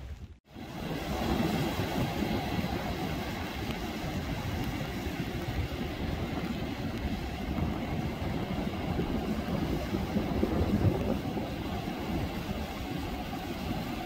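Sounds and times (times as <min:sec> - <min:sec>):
waves breaking on a beach: 0:00.0 - 0:14.0.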